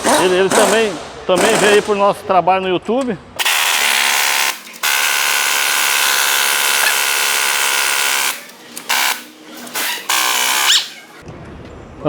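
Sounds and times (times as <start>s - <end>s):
pneumatic impact wrench: 0.0s - 1.9s, 3.4s - 11.2s.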